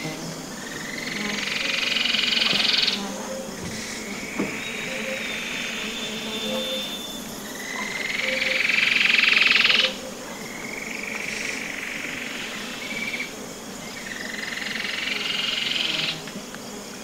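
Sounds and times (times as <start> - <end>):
high buzzing trills: 0.0 - 17.0.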